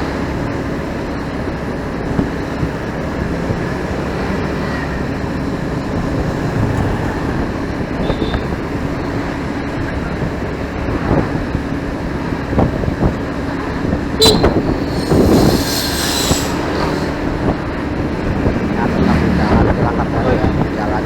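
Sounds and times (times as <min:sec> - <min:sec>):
motorcycle engine rumble: 0:00.0 - 0:21.0
wind: 0:00.0 - 0:21.0.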